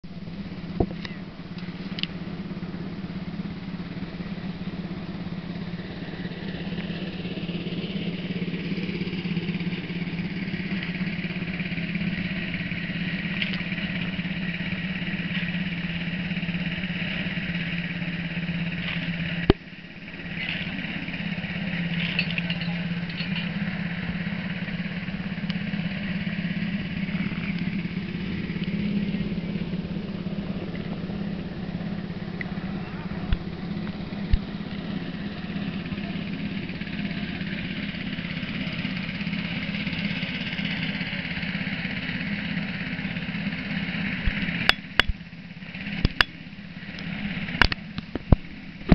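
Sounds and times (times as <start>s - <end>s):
engine running: 0.0s - 48.9s.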